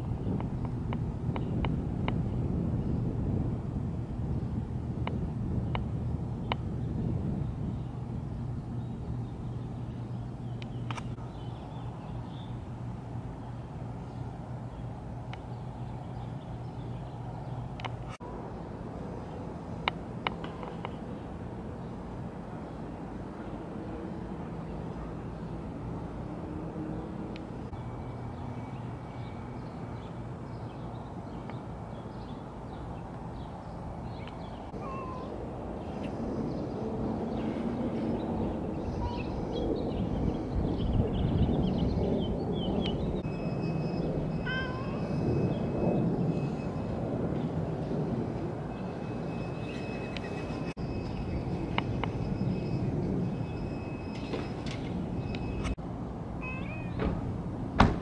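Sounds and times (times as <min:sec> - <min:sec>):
distant traffic: 0:00.0 - 0:58.0
low outdoor hum: 0:00.0 - 0:58.0
wind: 0:00.0 - 0:58.0.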